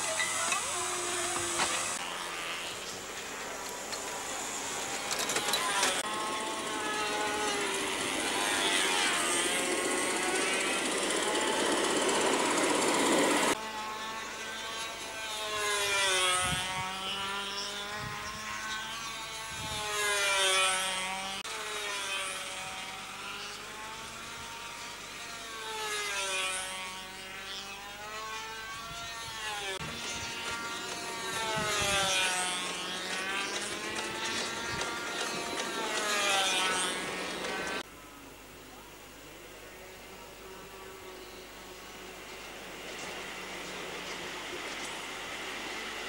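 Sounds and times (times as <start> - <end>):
small engine droning: 0.0 - 46.0.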